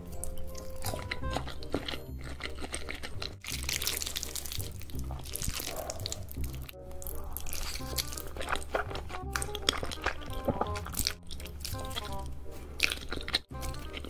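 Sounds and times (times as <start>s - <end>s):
background music: 0.0s - 14.0s
slurping: 0.0s - 14.0s
wet mouth sounds eating noodles: 0.0s - 14.0s.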